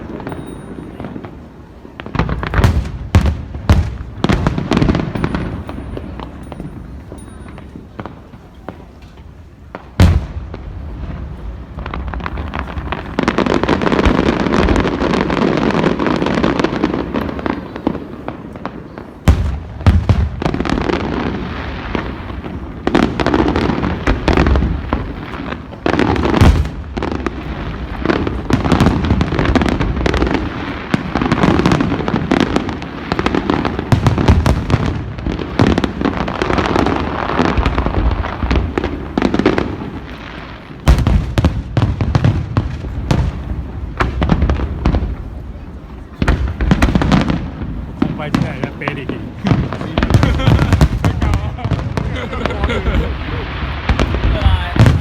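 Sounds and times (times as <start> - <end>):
fireworks bursting: 0.0 - 55.0
sharp loud fireworks bangs: 0.0 - 55.0.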